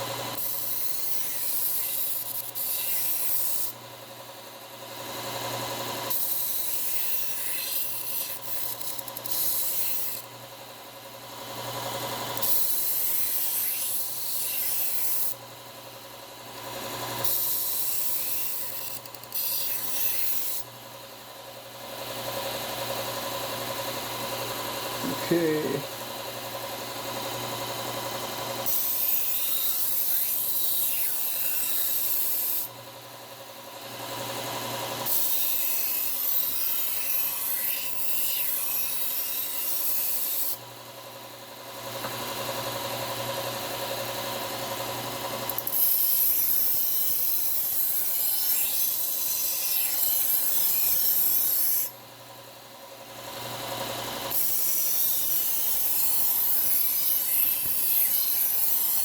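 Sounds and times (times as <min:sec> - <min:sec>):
knife grinding on belt sander: 0:00.0 - 0:20.8, 0:21.4 - 0:33.0, 0:33.7 - 0:52.0, 0:53.1 - 0:59.0.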